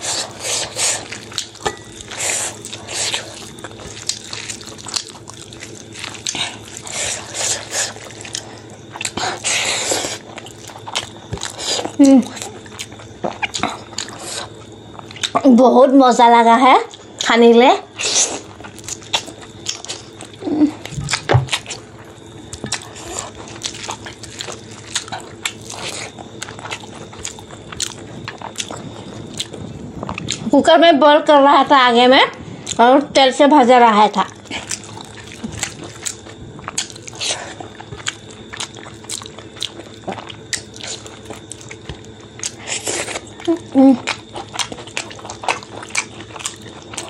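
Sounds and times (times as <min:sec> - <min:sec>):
wet chewing with mouth clicks: 0:00.0 - 0:15.5, 0:16.9 - 0:30.6, 0:34.1 - 0:47.0.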